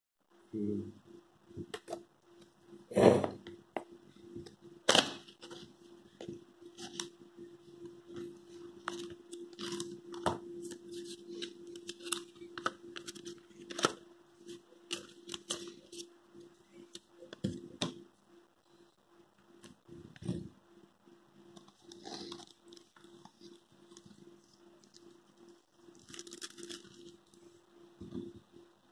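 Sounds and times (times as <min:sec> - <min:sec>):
steady low hum: 0:00.3 - 0:28.9.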